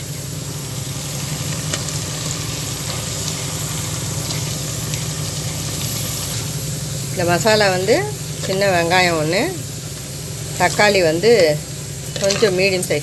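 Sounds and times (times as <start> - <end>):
steady low hum: 0.0 - 13.0
vegetables sizzling in hot oil: 0.0 - 13.0
faint crackles: 0.3 - 13.0.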